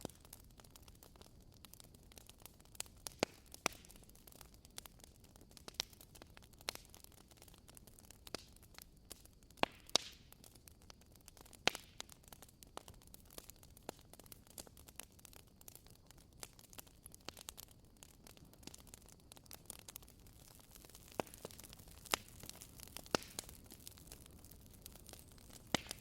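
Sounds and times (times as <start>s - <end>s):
firewood crackling: 0.0s - 26.0s.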